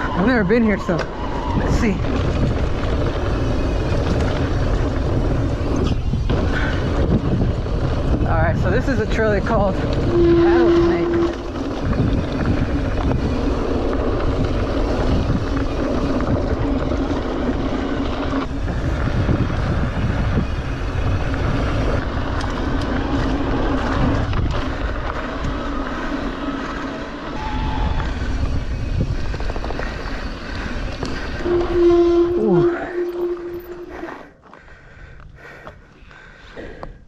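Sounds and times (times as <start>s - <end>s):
wind buffeting microphone: 0.0s - 26.5s, 27.4s - 34.1s
brakes squealing: 0.0s - 34.4s
bike rattling over rough ground: 0.0s - 37.0s.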